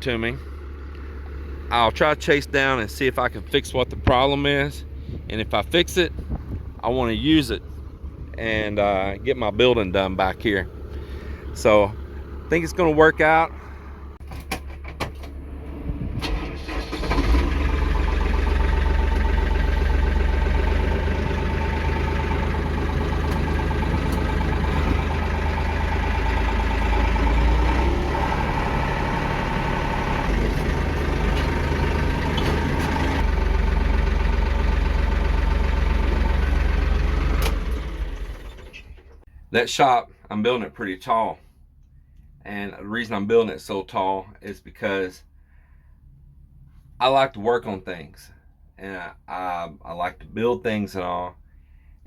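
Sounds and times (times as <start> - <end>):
truck engine starting and running: 0.0 - 52.0.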